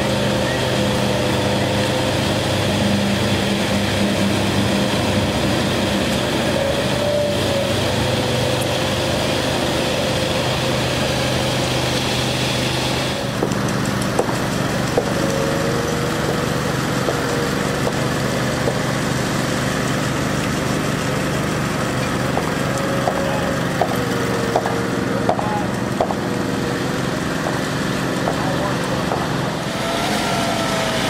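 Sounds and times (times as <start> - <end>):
small gas engine running: 0.0 - 31.0.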